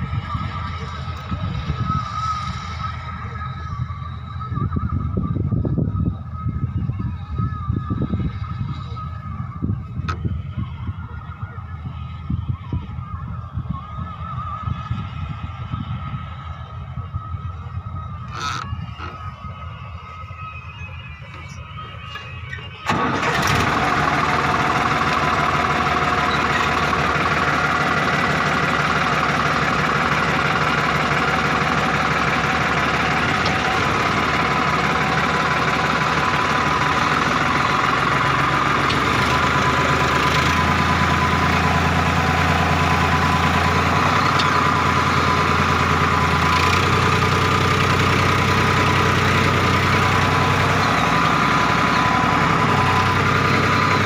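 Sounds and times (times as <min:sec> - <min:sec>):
constant high whine: 0:00.0 - 0:54.0
diesel engine running: 0:00.0 - 0:54.0.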